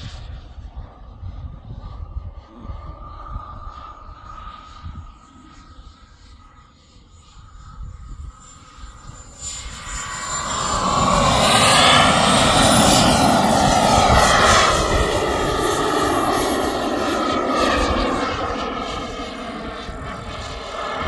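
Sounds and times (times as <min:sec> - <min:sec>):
jet turbine whine passing: 0:00.0 - 0:21.0.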